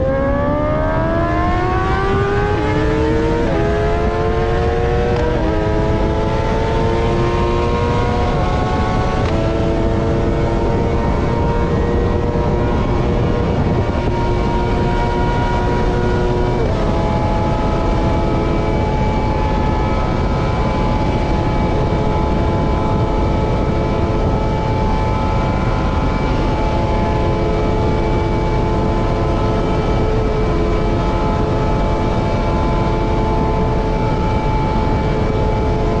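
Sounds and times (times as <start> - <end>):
heavy wind rush: 0.0 - 36.0
motorcycle engine at high revs: 0.0 - 36.0.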